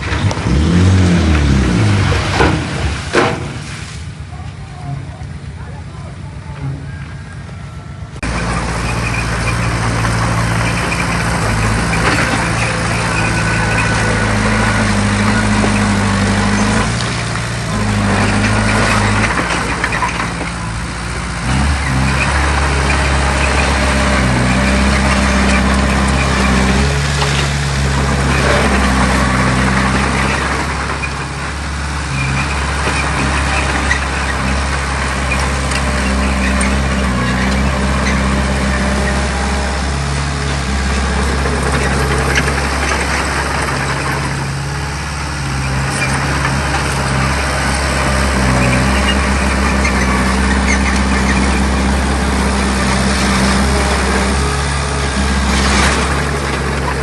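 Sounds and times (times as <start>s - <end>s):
clatter and rumble of work: 0.0s - 57.0s
heavy machinery diesel engine: 0.0s - 57.0s.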